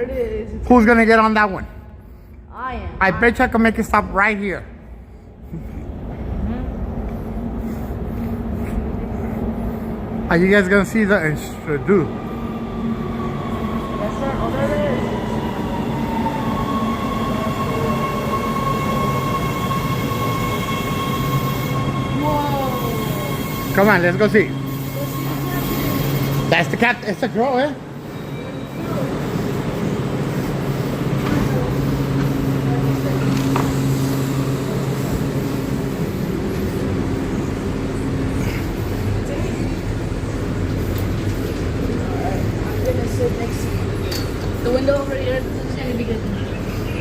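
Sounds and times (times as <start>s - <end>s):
subway train rumble: 0.0s - 47.0s.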